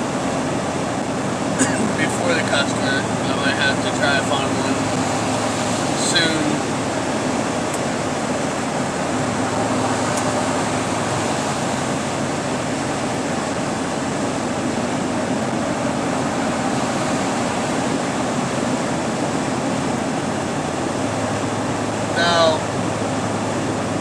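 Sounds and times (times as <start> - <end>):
low engine hum: 0.0 - 24.0
road noise hiss: 0.0 - 24.0.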